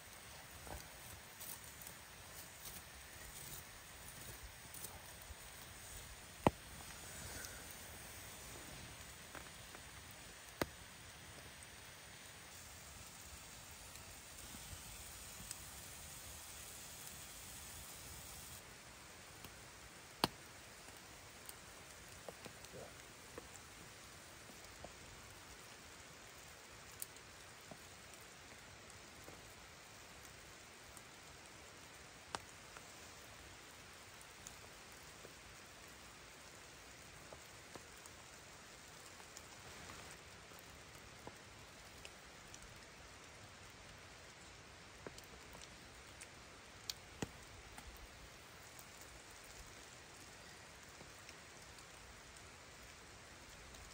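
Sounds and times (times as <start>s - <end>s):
light rain hissing: 0.0s - 53.9s
raindrops ticking: 0.0s - 53.9s.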